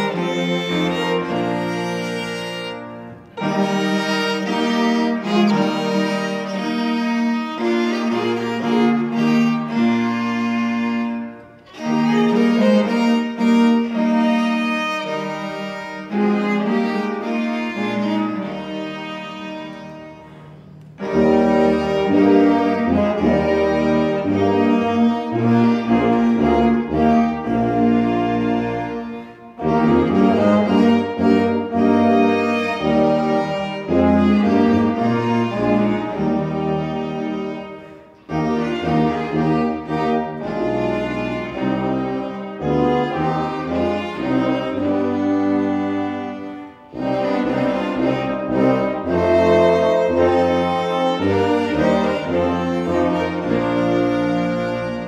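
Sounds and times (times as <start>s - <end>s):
chamber ensemble playing hymn: 0.0s - 55.0s.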